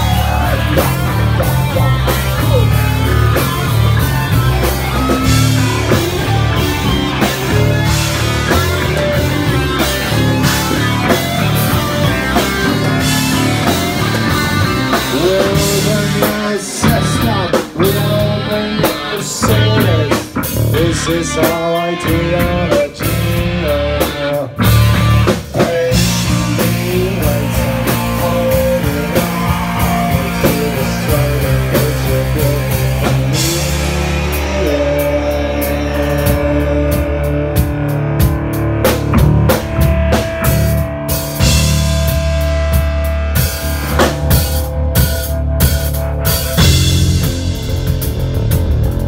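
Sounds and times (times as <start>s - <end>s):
drum kit: 0.0s - 49.0s
electric guitar: 0.0s - 49.0s.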